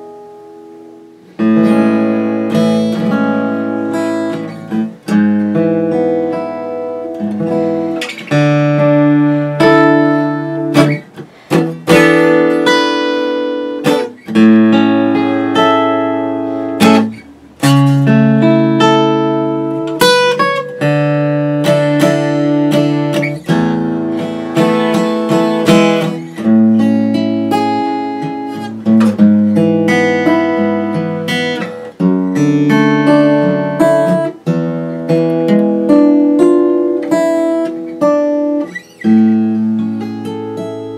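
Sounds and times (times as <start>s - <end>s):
acoustic guitar chords: 0.0s - 40.9s.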